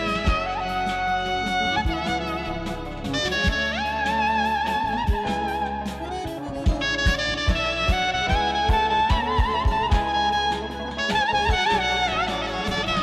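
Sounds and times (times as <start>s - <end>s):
clarinet melody with vibrato: 0.0s - 13.0s
drum beats: 0.0s - 13.0s
held low accompaniment: 0.0s - 13.0s.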